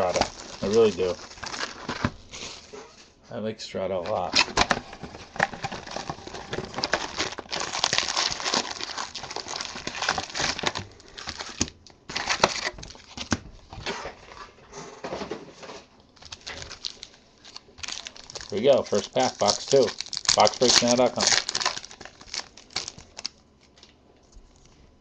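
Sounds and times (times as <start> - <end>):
foil wrappers crinkling: 0.0 - 3.1, 4.0 - 14.5, 16.2 - 23.9.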